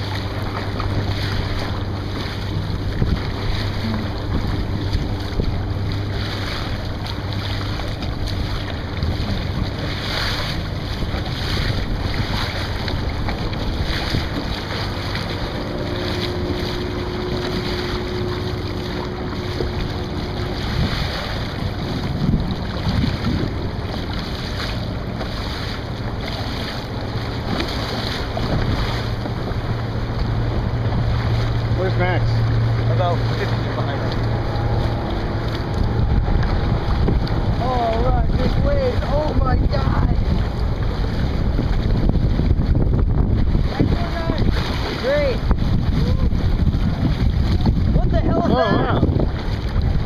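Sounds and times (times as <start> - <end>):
sea water washing around kayak: 0.0 - 50.0
soft water splashes: 0.0 - 50.0
wind buffeting microphone: 0.0 - 50.0.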